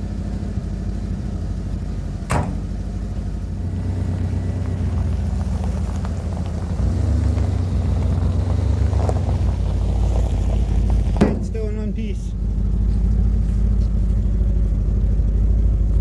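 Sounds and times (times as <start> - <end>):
van engine rumbling: 0.0 - 16.0.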